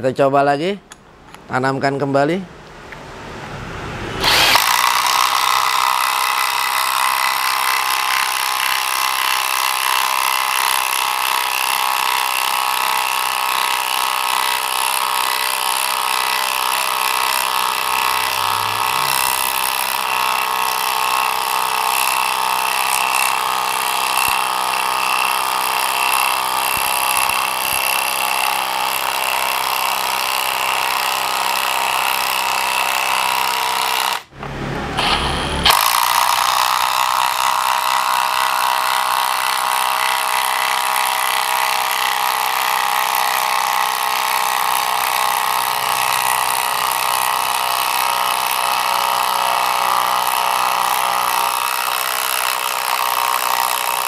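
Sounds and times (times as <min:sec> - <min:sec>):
impact driver hammering: 0:04.2 - 0:34.3, 0:35.0 - 0:52.3.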